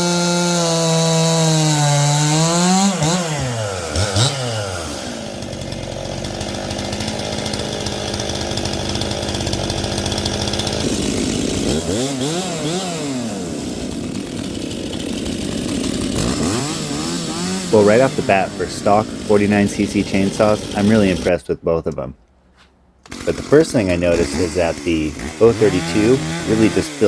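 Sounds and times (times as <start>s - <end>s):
chainsaw idling and revving: 0.0s - 21.4s, 23.0s - 27.0s.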